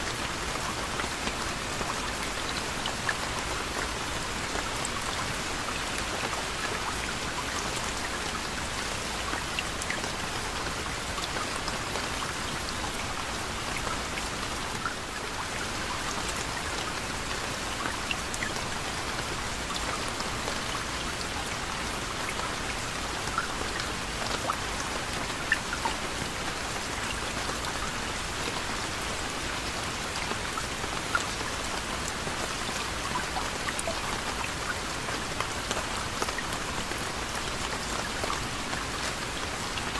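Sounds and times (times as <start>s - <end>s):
raindrops pattering: 0.0s - 39.9s
soft rain: 0.0s - 39.9s.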